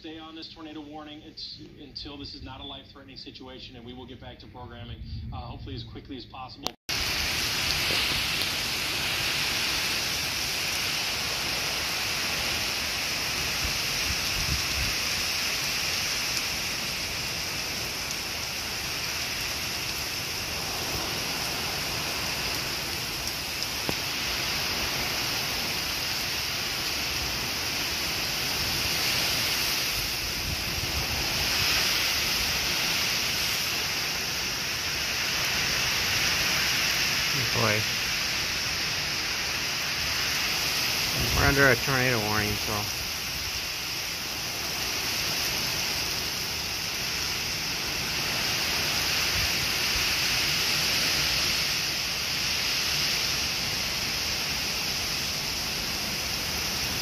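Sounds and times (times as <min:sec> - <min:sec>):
heavy rain pouring: 0:06.9 - 0:57.0.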